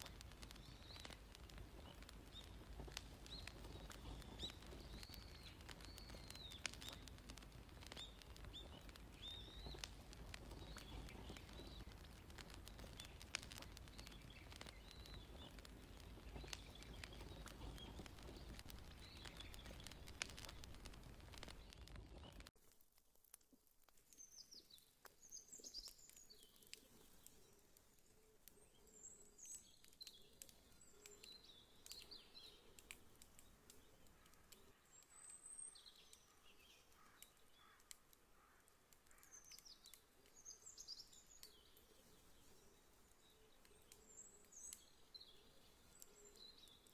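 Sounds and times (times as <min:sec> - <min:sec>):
small birds chirping: 0:00.0 - 0:22.5, 0:24.0 - 0:46.9
wood fire crackling and popping: 0:00.0 - 0:46.9.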